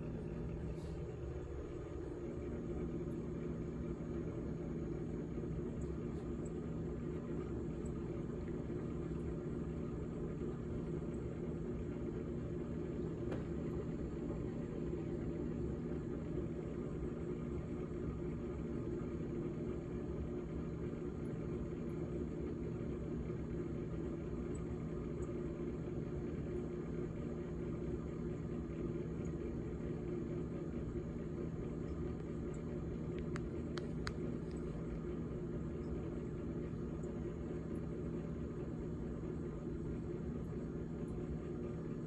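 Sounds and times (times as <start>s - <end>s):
refrigerator humming: 0.0s - 42.0s.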